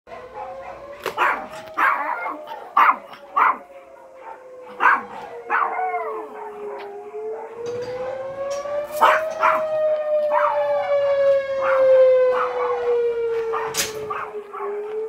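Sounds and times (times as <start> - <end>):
small dogs barking and yipping: 0.1 - 10.9, 11.6 - 15.0
alarm siren wailing: 0.1 - 15.0.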